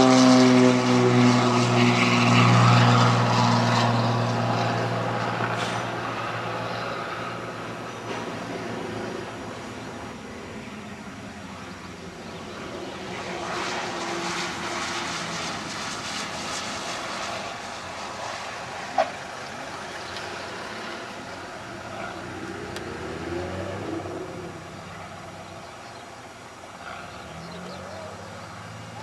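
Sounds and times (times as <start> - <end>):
propeller airplane engine droning: 0.0 - 29.0.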